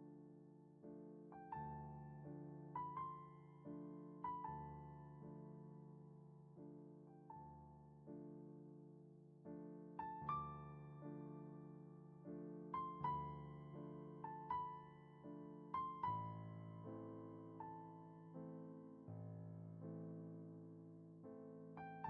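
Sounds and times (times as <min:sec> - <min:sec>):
slow soft piano music: 0:00.0 - 0:22.0.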